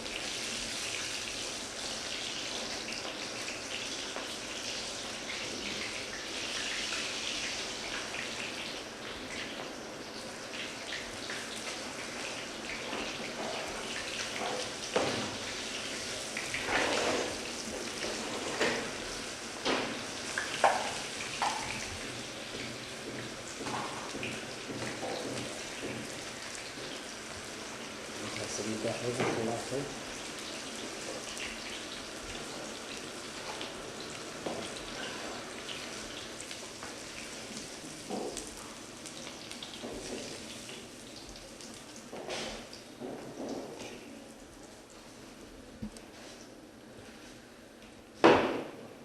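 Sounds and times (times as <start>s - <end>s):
fish sizzling in hot oil: 0.0s - 43.9s.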